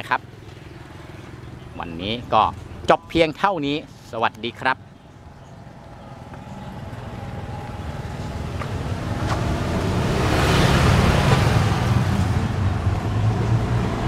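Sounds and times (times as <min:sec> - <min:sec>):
vehicle engine approaching: 0:00.0 - 0:14.0.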